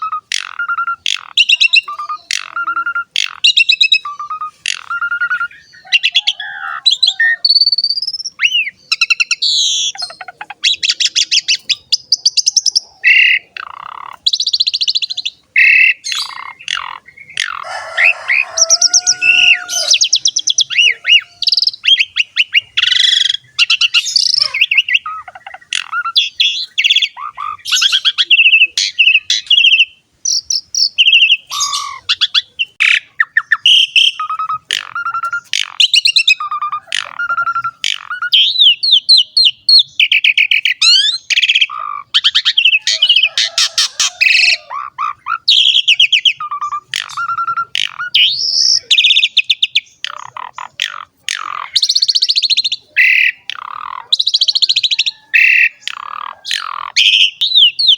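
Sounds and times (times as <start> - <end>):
starling singing: 0.0 - 57.9.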